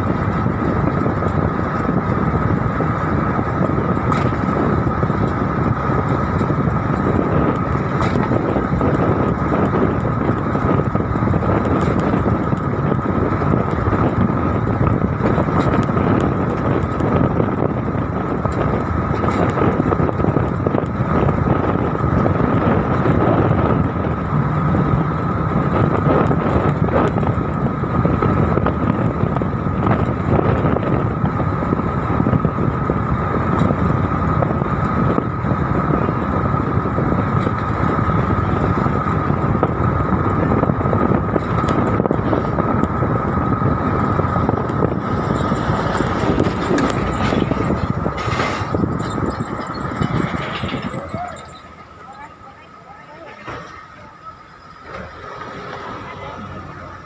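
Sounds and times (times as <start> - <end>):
constant high hum: 0.0 - 57.0
vehicle driving at speed: 0.0 - 57.0.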